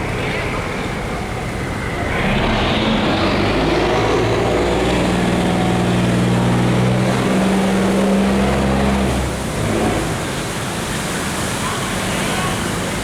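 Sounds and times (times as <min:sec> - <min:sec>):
boat engine running hard: 0:00.0 - 0:13.0
water rushing through sluice gate: 0:00.0 - 0:13.0.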